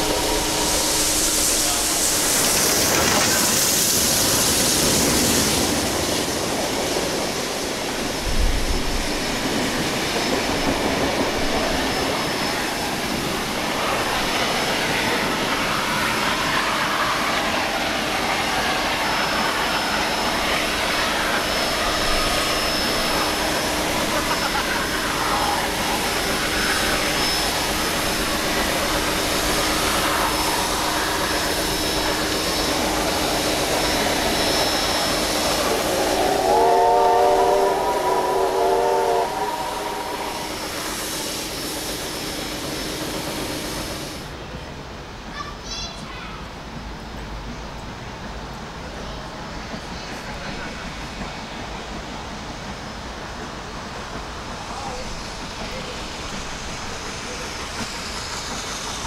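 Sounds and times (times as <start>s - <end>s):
locomotive machinery noise: 0.0s - 45.0s, 46.6s - 59.0s
steam hissing: 0.0s - 59.0s.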